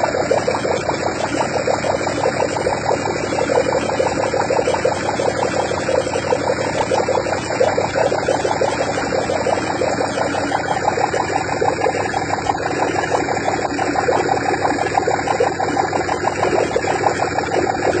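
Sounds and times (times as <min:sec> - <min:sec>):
engine running pulsing exhaust: 0:00.0 - 0:18.0.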